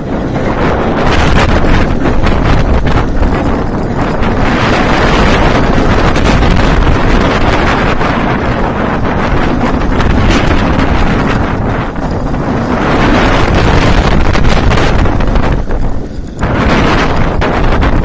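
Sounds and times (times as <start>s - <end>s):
coaster train rumbling on track: 0.0s - 18.0s
wind rushing over microphone: 0.0s - 18.0s.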